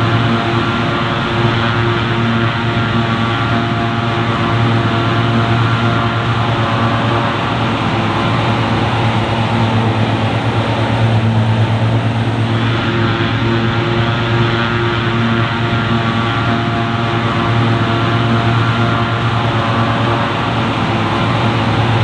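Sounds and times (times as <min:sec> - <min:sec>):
diesel machinery engine running: 0:00.0 - 0:14.0, 0:16.7 - 0:22.0.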